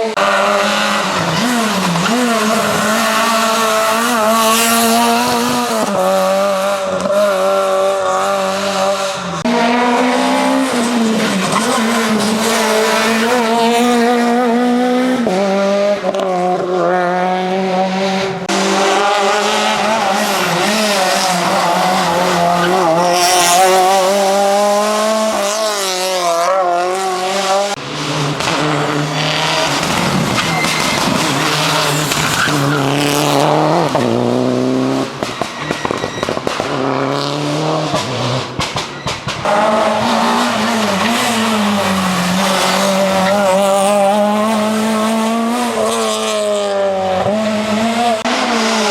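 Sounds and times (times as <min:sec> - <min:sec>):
rally car engine revving hard: 0:00.0 - 0:48.9.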